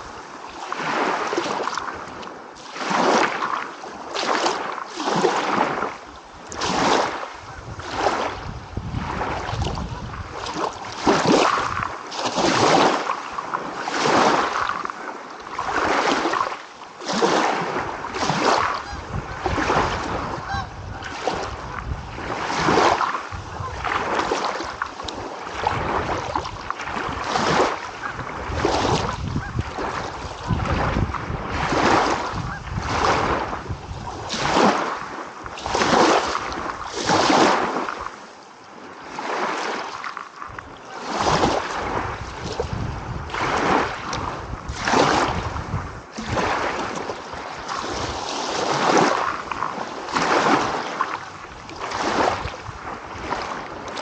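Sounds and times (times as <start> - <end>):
small waves washing on shore: 0.0 - 54.0.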